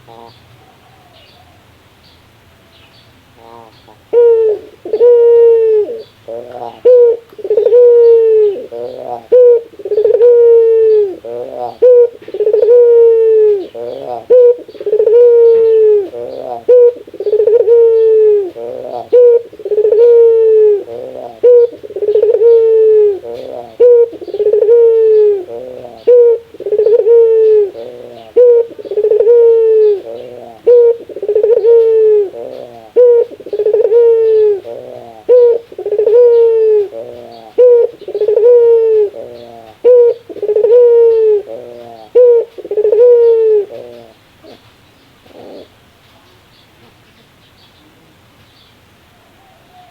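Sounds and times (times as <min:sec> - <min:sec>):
dove laughing call: 0:00.0 - 0:01.3, 0:03.4 - 0:45.8.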